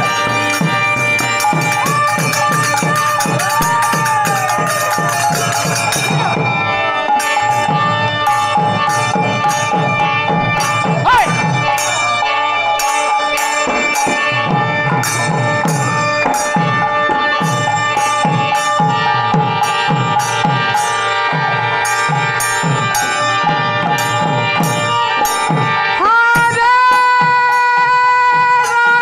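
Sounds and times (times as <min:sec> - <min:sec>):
hand cymbals clashing: 0:00.0 - 0:26.6
barrel drums beaten: 0:00.0 - 0:28.5.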